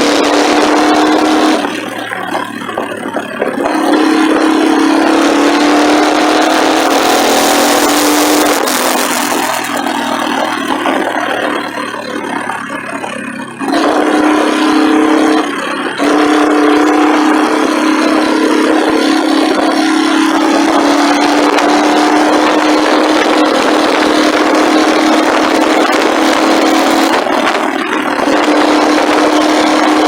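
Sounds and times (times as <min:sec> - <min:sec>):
motorcycle engine: 0:00.0 - 0:30.0
wind noise: 0:00.0 - 0:30.0.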